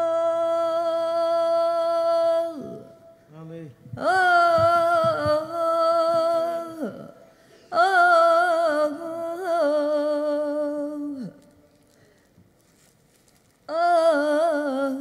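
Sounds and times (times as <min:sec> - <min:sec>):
woman singing wordless vocal: 0:00.0 - 0:03.2, 0:03.9 - 0:11.6, 0:13.7 - 0:15.0.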